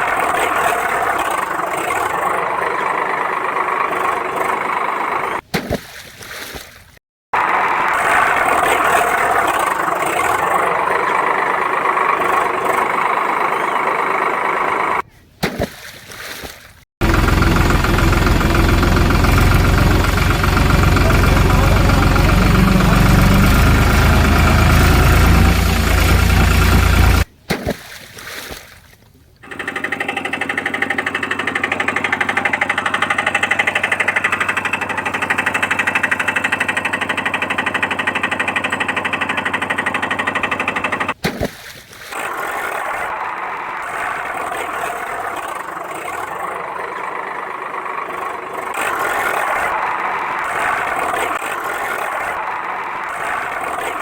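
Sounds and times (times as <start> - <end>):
engine running: 0.0 - 5.5, 7.3 - 15.0, 17.0 - 27.3, 29.4 - 41.2, 42.0 - 54.0.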